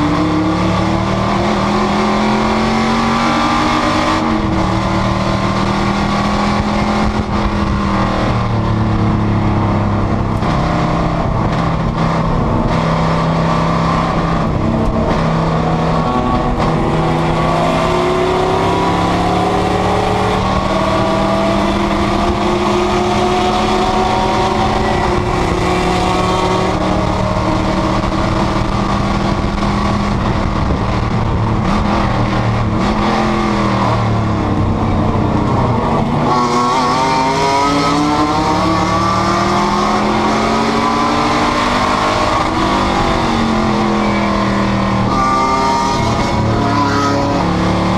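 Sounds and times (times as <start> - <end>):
race car engine accelerating: 0.0 - 47.9.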